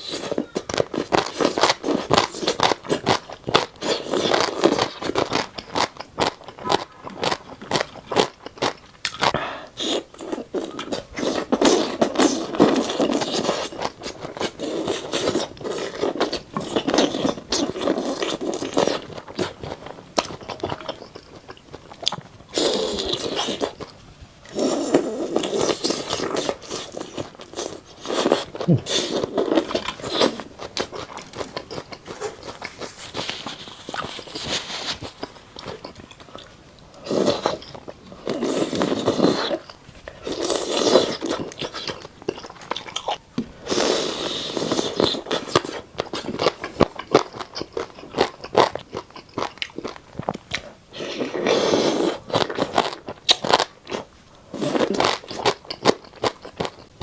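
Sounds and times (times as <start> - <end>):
crunchy biting and chewing: 0.0 - 57.0.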